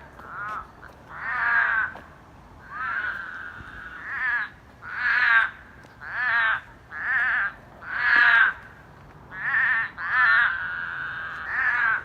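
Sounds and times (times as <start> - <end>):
frogs bleating: 0.2 - 2.0, 2.6 - 8.7, 9.3 - 12.0.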